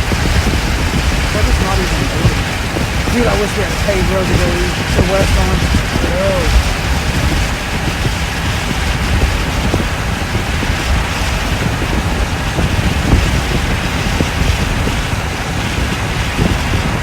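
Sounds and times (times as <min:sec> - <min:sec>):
tyres rumbling on dirt road: 0:00.0 - 0:17.0.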